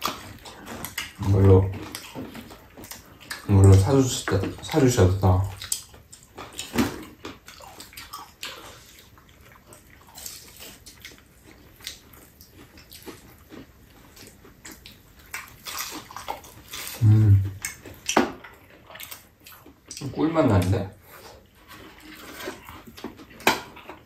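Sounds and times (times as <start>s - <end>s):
chewing and lip-smacking: 0.0s - 24.0s.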